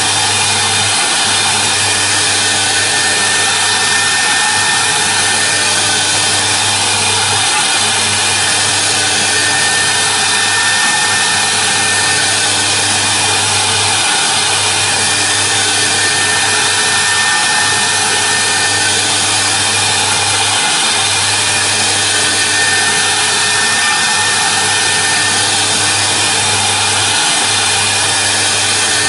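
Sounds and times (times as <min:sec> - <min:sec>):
continuous cutting hiss: 0:00.0 - 0:29.0
router spindle high whine: 0:00.0 - 0:29.0.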